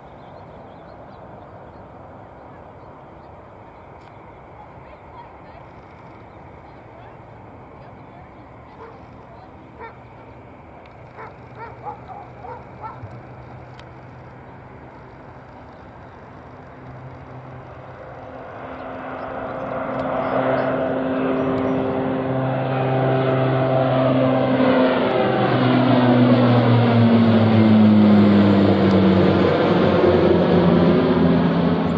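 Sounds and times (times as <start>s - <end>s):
airplane engines droning: 0.0s - 31.9s.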